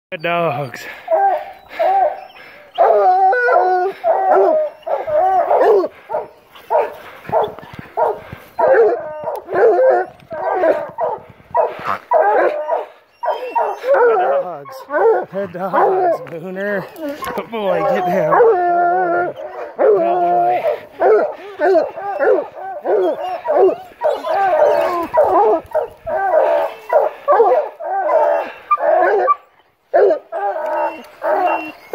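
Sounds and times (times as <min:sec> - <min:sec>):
hounds baying and barking: 0:00.2 - 0:31.9.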